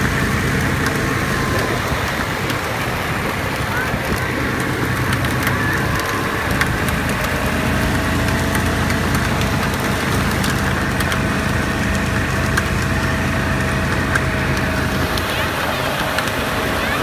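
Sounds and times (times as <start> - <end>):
small gas engine running: 0.0 - 17.0
thin steady whine: 0.0 - 17.0.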